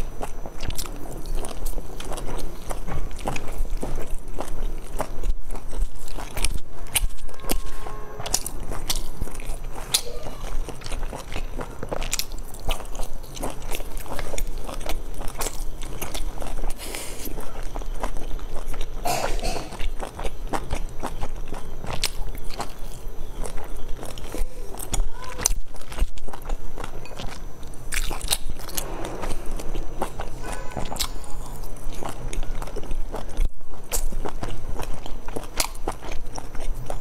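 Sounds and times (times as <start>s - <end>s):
chewing dumplings: 0.0s - 37.0s.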